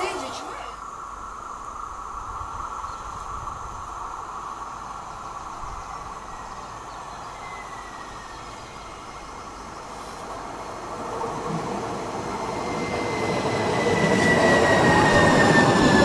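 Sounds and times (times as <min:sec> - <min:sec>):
tram hum and rail noise: 0:00.0 - 0:16.0.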